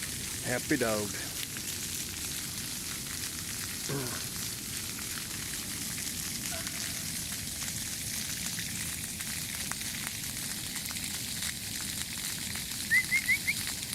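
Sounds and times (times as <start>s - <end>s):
water spraying with hiss: 0.0s - 13.9s.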